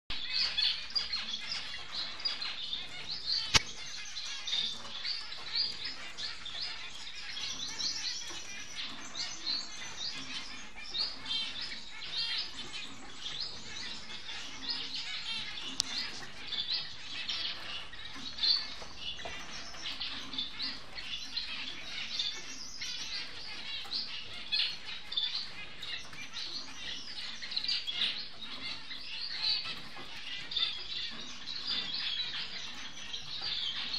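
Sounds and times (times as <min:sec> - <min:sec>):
finches chirping: 0:00.1 - 0:33.9.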